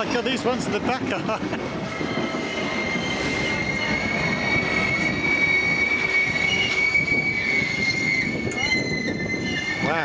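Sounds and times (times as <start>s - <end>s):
train wheels rumbling on rails: 0.0s - 10.0s
high-pitched metallic squeal: 1.9s - 10.0s.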